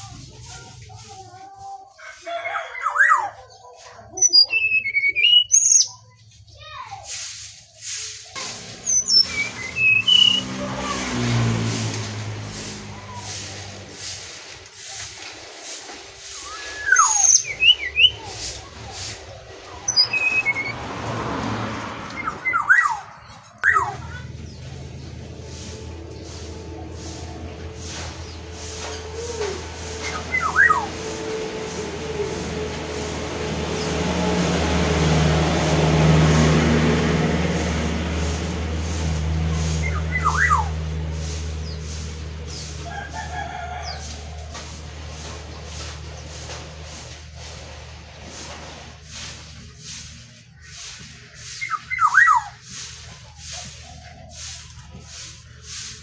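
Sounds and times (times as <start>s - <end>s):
broad rushing noise: 6.6s - 56.0s.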